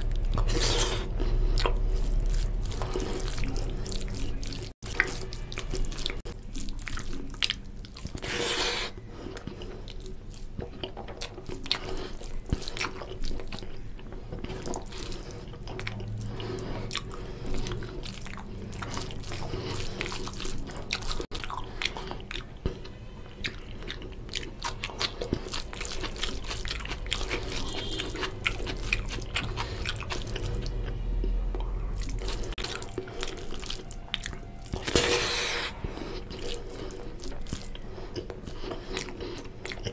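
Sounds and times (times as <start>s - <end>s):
chewing and mouth sounds: 0.0s - 39.9s
food squelching mixed by hand: 0.0s - 39.9s.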